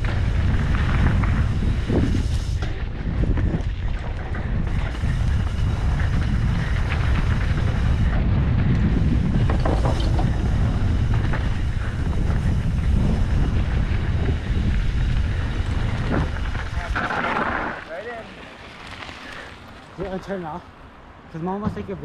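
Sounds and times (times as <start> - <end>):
bike rattling: 0.0 - 22.0
bike tyre noise: 0.0 - 22.0
wind rushing over microphone: 0.0 - 22.0.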